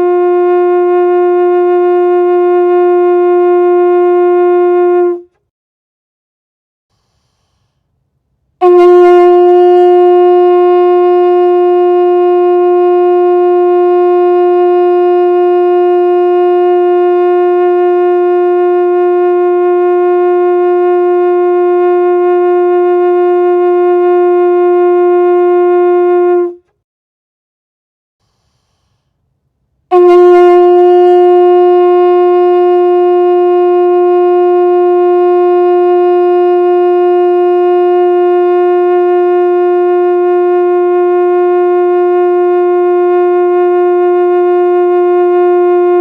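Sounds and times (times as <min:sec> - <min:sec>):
conch shell blown: 0:00.0 - 0:05.5, 0:06.9 - 0:26.8, 0:28.2 - 0:46.0.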